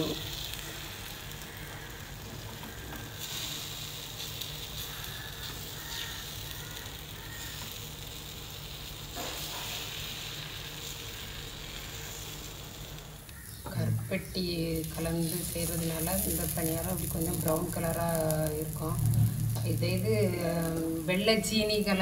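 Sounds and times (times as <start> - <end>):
batter sizzling in oil: 0.0 - 22.0.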